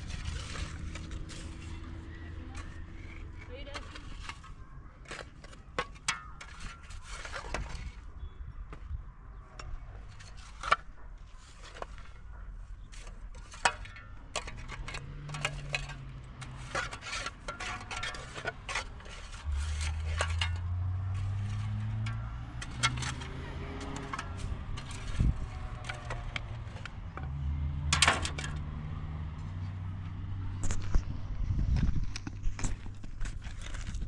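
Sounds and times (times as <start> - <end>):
hard objects clinking and scraping: 0.0 - 8.1, 9.6 - 28.8, 31.8 - 34.0.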